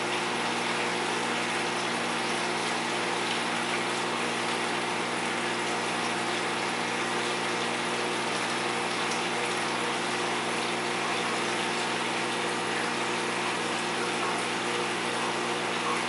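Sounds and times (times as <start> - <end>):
pump hum: 0.0 - 16.0.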